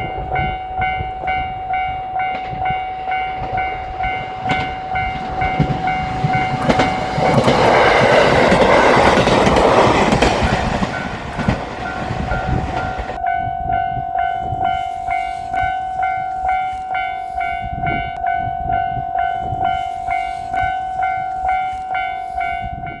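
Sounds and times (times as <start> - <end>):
level crossing bell ringing: 0.0 - 23.0
train wheels rumbling and clacking: 0.0 - 23.0.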